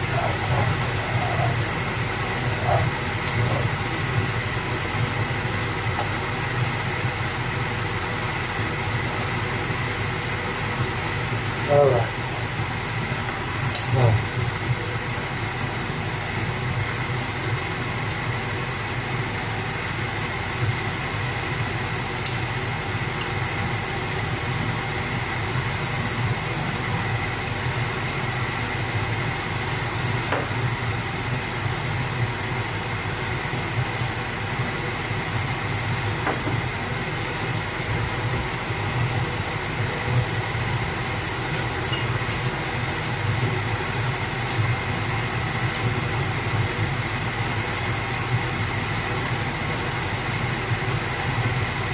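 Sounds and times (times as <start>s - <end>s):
kitchen motor humming: 0.0s - 51.9s.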